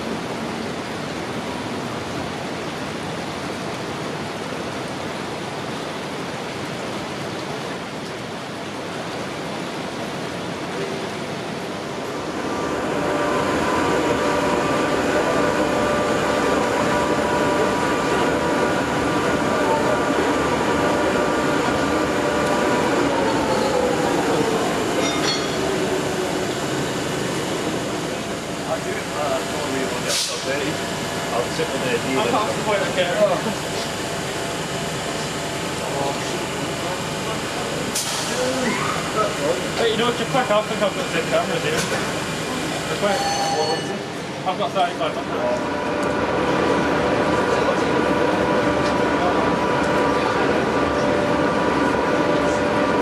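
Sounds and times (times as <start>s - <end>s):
rain hiss: 0.0s - 43.1s
electric locomotive whine: 0.0s - 53.0s.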